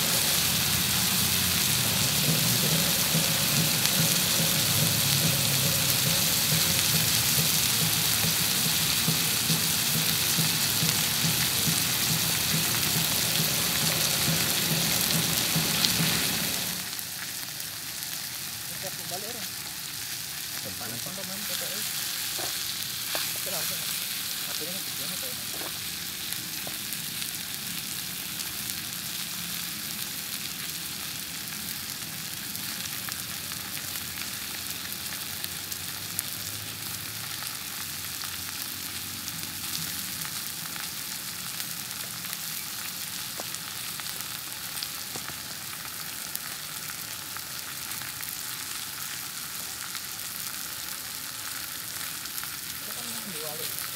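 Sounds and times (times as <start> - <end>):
steak sizzling in a frying pan: 0.0 - 53.9.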